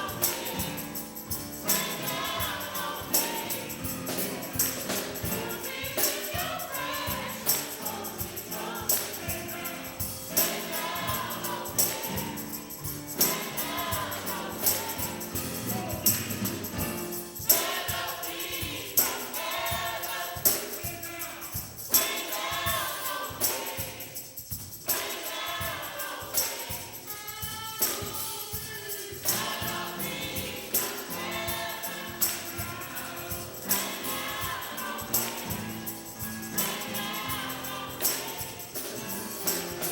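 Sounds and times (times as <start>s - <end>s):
choir singing gospel: 0.0s - 39.9s
steady percussion beat: 0.0s - 39.9s.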